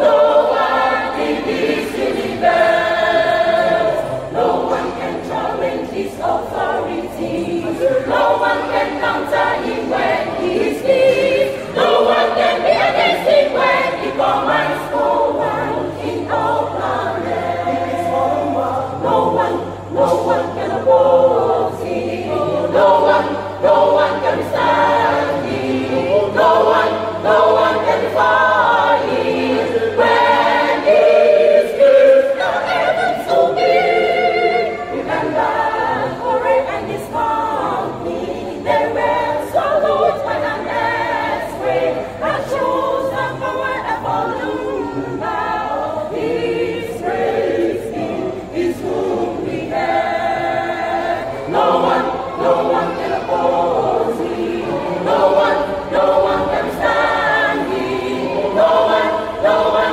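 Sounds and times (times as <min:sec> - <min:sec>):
choir singing gospel: 0:00.0 - 0:59.9.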